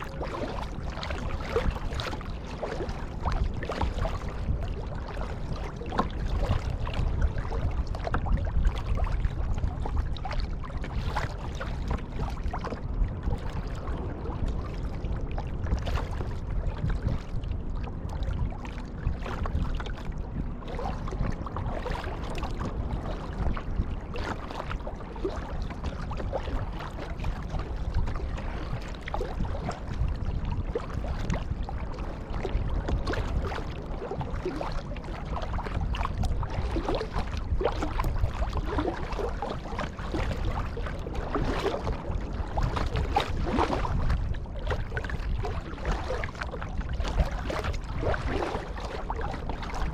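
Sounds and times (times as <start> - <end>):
paddle splashing in water: 0.0 - 49.9
steady low rumble: 0.0 - 49.9.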